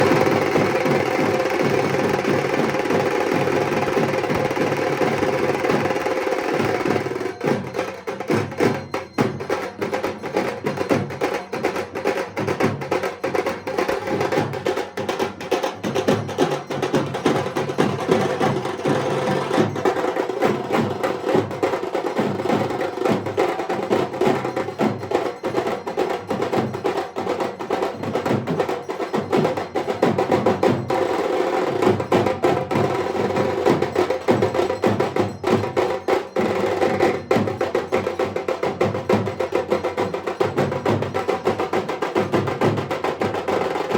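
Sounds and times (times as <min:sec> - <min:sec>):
barrel drum beaten fast: 0:00.0 - 0:43.9.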